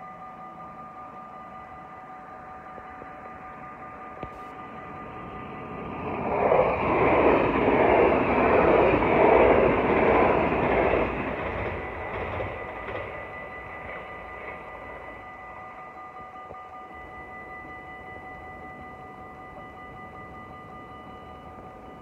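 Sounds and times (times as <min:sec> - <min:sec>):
level crossing warning bells: 0:00.0 - 0:22.0
train wheels rushing on rails: 0:02.7 - 0:22.0.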